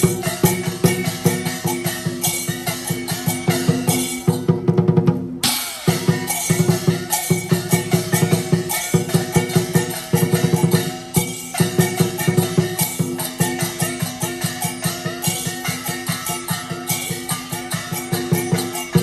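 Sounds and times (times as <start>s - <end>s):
clashing cymbals: 0.0s - 19.0s
drum beaten rapidly: 0.0s - 19.0s.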